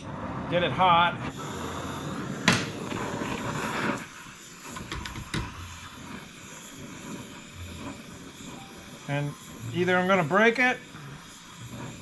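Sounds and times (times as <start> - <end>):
gas hissing: 0.0 - 12.0
torch flame burning: 0.0 - 12.0
gas torch igniting pop: 1.2 - 12.0.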